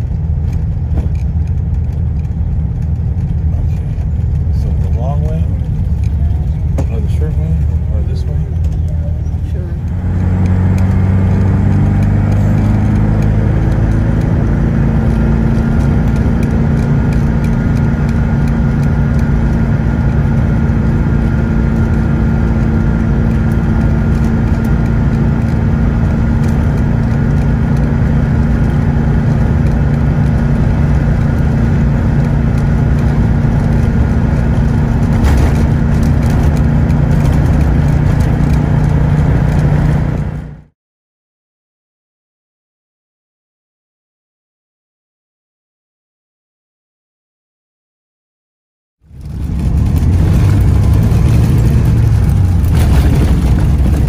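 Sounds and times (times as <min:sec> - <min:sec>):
vehicle engine running: 0:00.0 - 0:40.7, 0:49.0 - 0:54.0.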